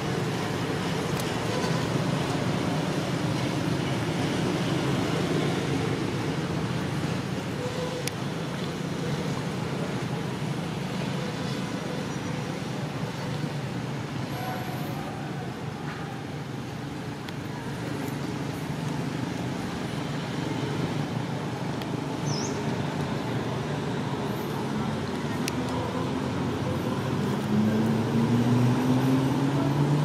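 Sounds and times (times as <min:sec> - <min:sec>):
distant traffic rumble: 0:00.0 - 0:30.0.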